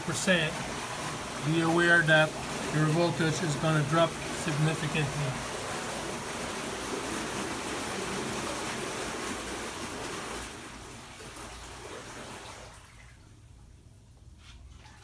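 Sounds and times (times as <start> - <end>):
thrusters churning water: 0.0 - 12.9.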